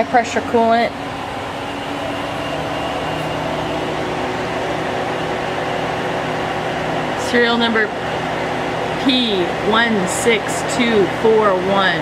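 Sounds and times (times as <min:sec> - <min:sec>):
machinery hum with steady tones: 0:00.0 - 0:12.0.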